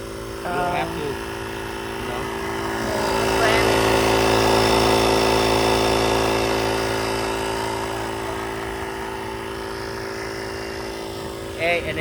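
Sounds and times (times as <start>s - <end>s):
tire inflator motor humming: 0.0s - 12.0s.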